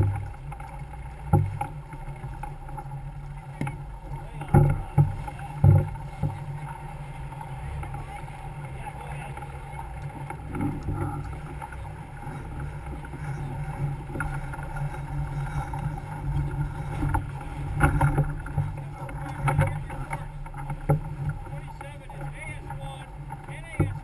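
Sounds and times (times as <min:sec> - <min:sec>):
water rushing along hull: 0:00.0 - 0:24.0.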